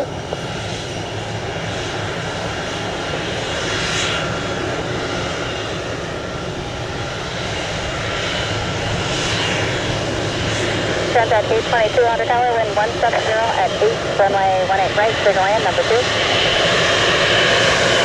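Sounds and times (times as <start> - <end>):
faint engine whine: 0.0 - 18.0
jet engines rumbling: 0.0 - 18.0.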